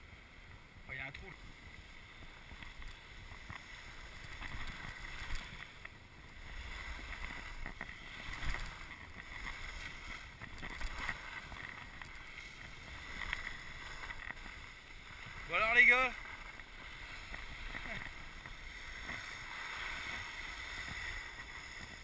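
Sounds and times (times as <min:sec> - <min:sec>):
skis scraping over snow: 0:00.0 - 0:22.0.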